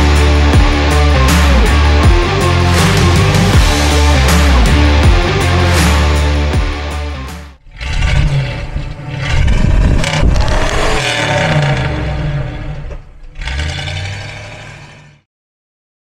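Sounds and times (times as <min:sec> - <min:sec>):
engine exhaust revving: 0:00.0 - 0:15.3.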